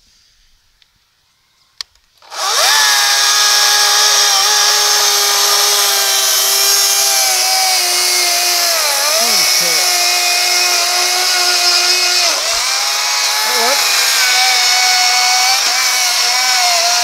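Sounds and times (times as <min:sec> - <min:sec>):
electric chainsaw motor whine: 0:02.2 - 0:17.0.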